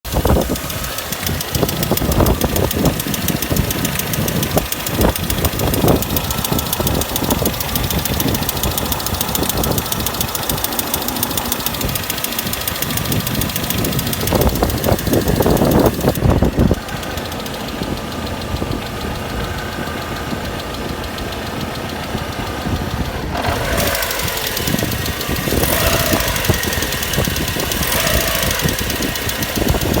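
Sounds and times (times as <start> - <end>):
car engine knocking: 0.0 - 30.0.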